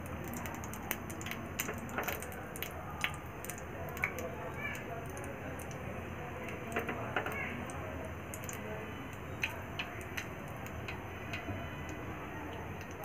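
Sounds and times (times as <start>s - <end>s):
sharp ticks and pops: 0.0s - 5.8s, 6.4s - 13.0s
oil sizzling: 0.0s - 13.0s.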